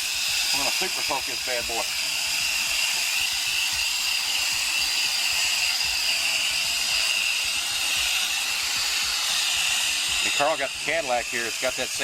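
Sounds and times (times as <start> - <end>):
spray gun hissing: 0.0 - 12.0.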